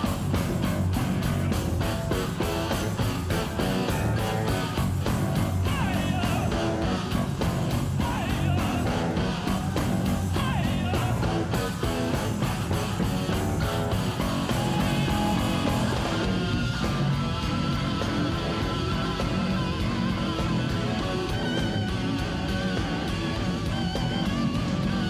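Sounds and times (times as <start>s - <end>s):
bass guitar: 0.0s - 25.0s
electric guitar: 0.0s - 25.0s
steady drum beat: 0.0s - 25.0s.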